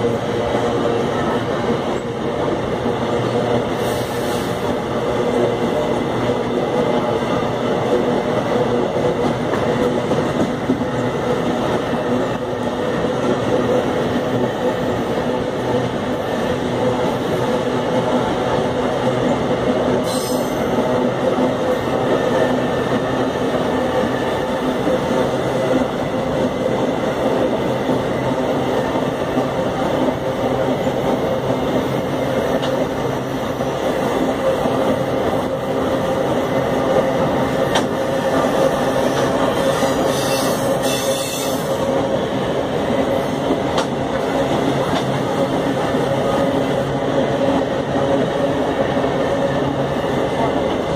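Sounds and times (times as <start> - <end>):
freight train wheels on rails: 0.0 - 50.9.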